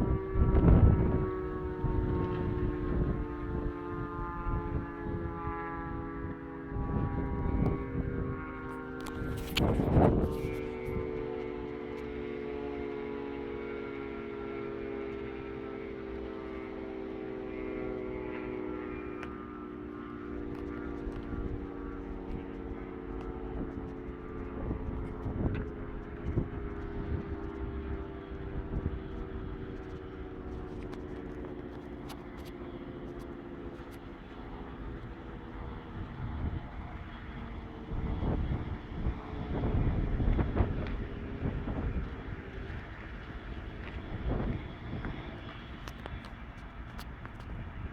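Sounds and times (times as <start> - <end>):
distant warning siren wail: 0.0 - 47.9.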